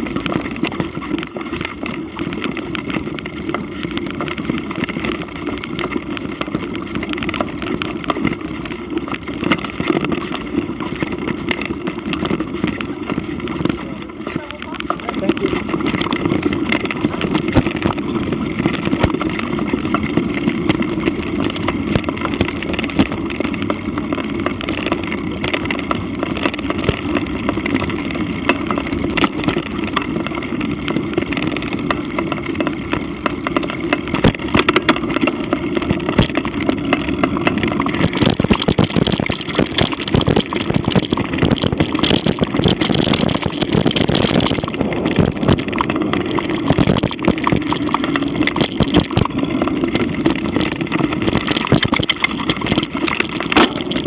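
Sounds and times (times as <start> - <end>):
bike knocks and rattles: 0.0 - 54.0
mountain bike rolling on dirt: 0.0 - 54.0.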